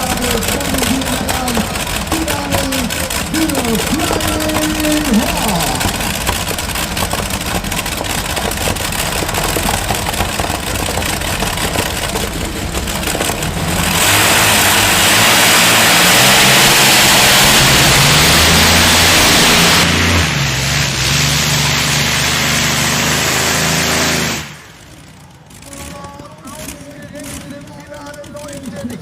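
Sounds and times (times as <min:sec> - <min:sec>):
tractor engines running hard: 0:00.0 - 0:29.0.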